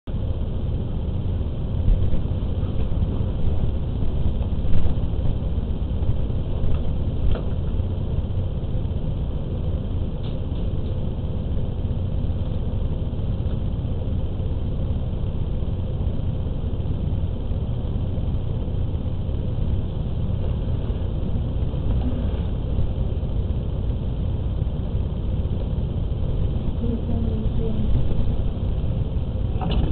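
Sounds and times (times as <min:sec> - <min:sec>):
low rumbling hum: 0:00.0 - 0:29.9.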